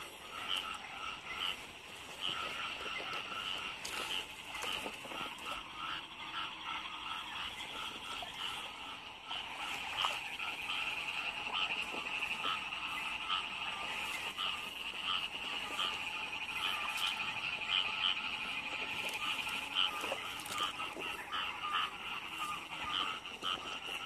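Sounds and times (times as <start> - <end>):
frogs trilling: 0.0 - 24.0
lower short frog calls: 0.0 - 24.0.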